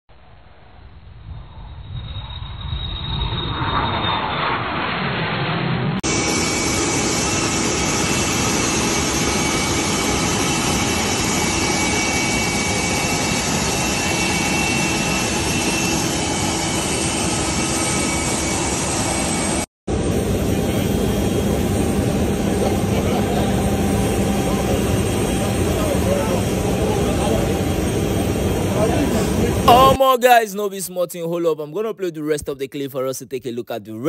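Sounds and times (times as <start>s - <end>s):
jet engine roaring: 0.1s - 30.0s.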